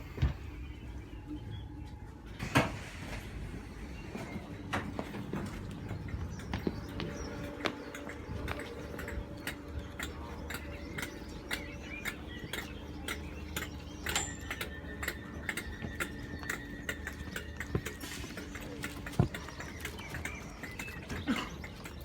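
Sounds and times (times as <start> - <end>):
low steady hum: 0.0 - 22.0
train wheels clicking over rail joints: 2.3 - 22.0.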